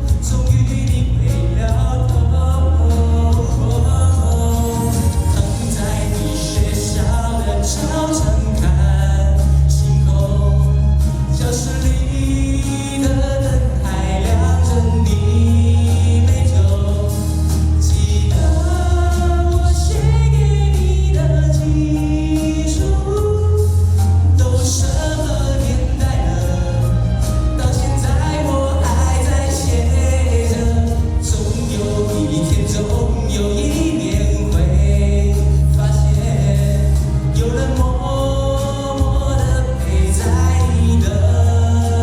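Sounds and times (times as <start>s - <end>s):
live pop ballad singing: 0.0s - 42.0s
sustained bass notes: 0.0s - 42.0s.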